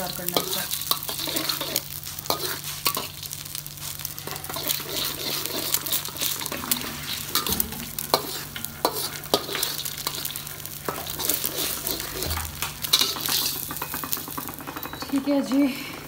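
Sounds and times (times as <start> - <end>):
eggs sizzling in hot oil: 0.0 - 16.0.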